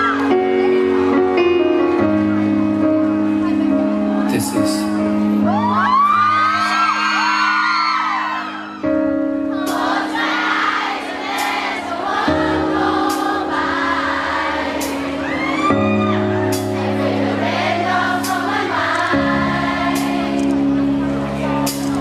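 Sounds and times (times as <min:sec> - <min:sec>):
crowd screaming and cheering: 0:00.0 - 0:22.0
pop ballad over loudspeakers: 0:00.0 - 0:22.0.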